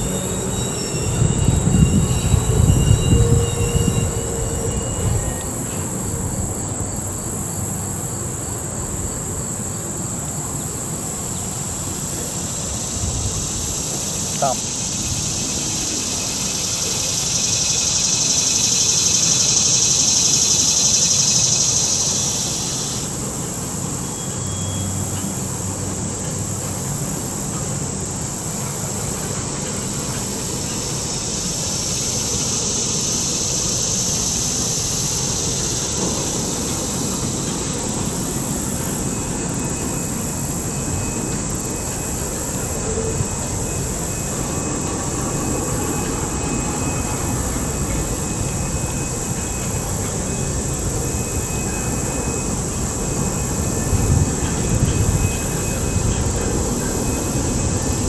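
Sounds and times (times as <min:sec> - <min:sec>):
high hiss: 0:00.0 - 0:58.0
train rolling over bridge: 0:00.0 - 0:58.0.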